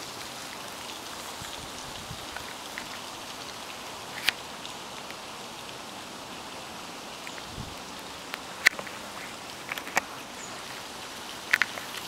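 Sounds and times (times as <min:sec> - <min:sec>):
raindrop ticks: 0:00.0 - 0:05.9, 0:07.2 - 0:12.0
steady rain falling: 0:00.0 - 0:12.0.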